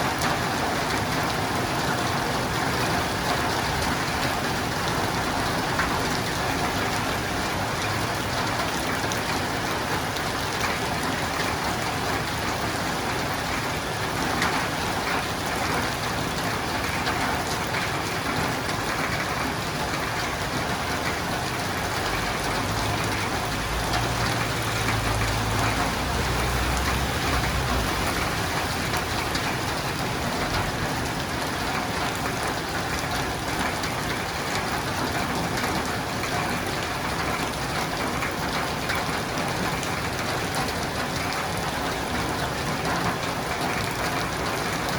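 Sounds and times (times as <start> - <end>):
rain on roof and windows: 0.0 - 44.9.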